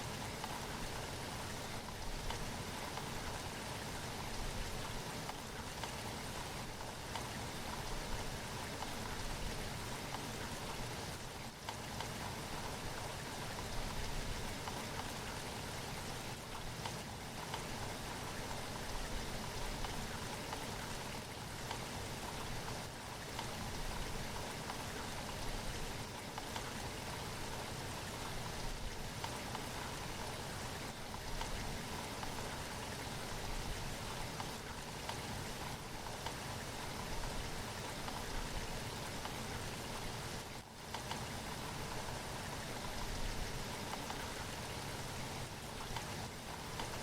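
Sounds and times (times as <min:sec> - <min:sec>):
steady rain: 0:00.0 - 0:47.0.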